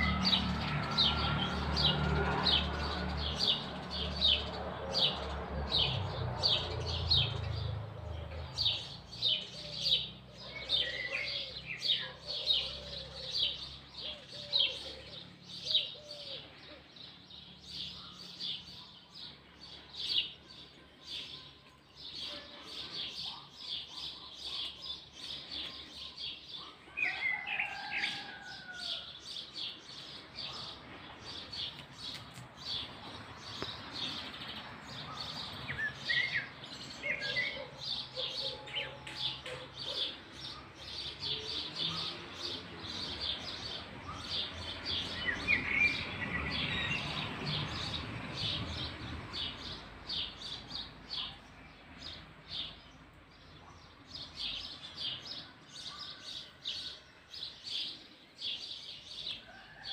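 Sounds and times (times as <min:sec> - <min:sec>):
small birds chirping: 0:00.0 - 0:59.8.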